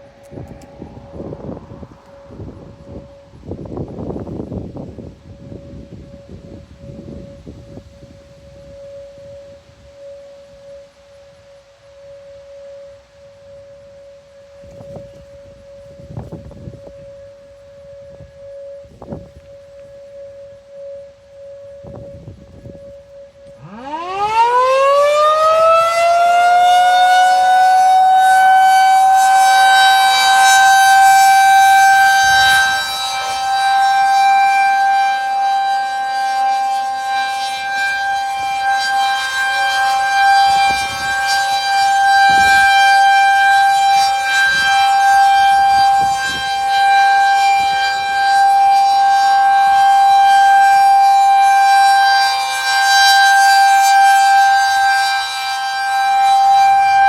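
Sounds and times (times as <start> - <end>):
tornado siren wailing: 0.0 - 57.0.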